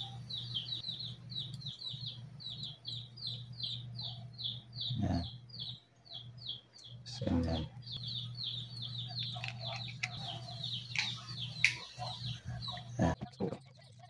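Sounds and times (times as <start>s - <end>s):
small bird chirping: 0.0s - 13.2s
steady low hum: 0.0s - 13.3s.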